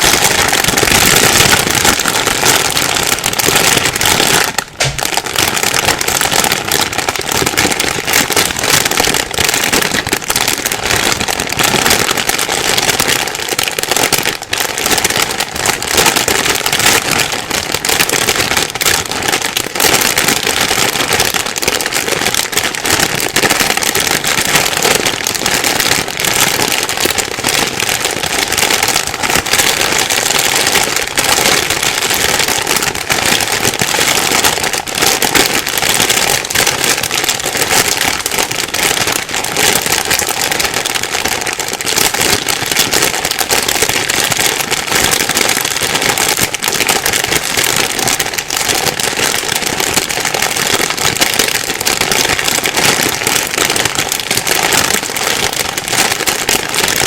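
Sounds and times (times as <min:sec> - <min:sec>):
plastic bag crinkling: 0:00.0 - 0:57.0.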